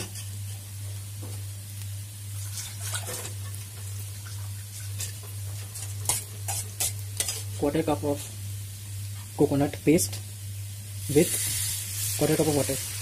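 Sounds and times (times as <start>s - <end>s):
potatoes sizzling in a pan: 0.0s - 13.0s.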